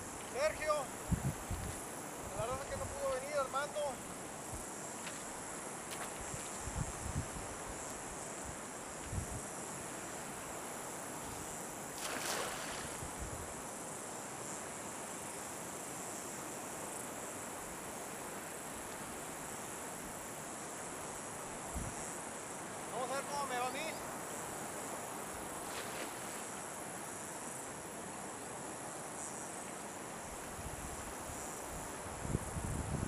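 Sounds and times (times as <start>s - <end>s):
crickets and insects trilling: 0.0s - 33.0s.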